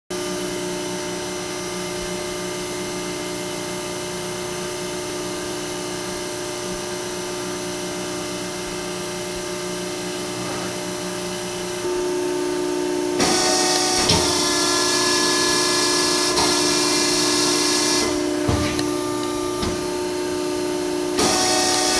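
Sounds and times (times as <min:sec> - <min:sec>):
hydraulic power unit hum: 0:00.1 - 0:21.9.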